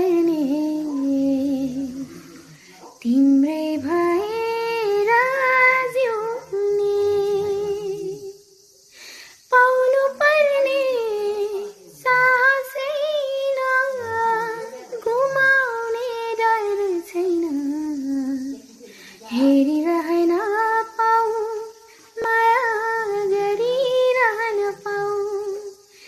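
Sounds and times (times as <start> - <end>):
girl singing unaccompanied: 0.0 - 8.5, 9.4 - 26.0.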